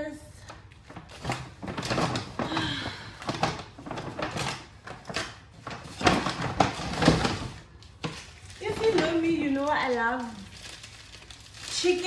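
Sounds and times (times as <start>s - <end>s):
packages rustling: 0.4s - 12.0s.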